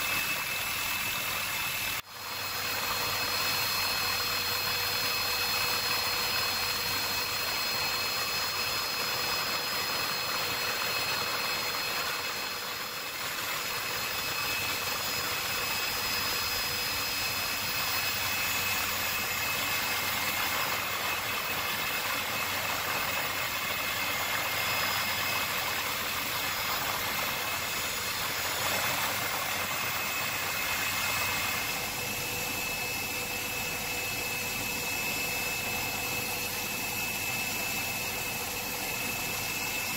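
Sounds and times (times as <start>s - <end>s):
aircraft engine whine: 0.0s - 39.9s.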